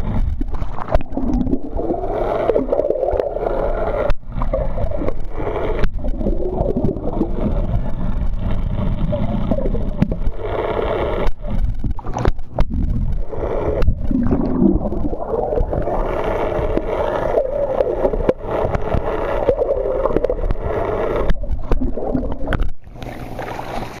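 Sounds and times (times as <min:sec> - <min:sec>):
underwater boat machinery rumble: 0:00.0 - 0:24.0
underwater bubbling: 0:00.0 - 0:24.0.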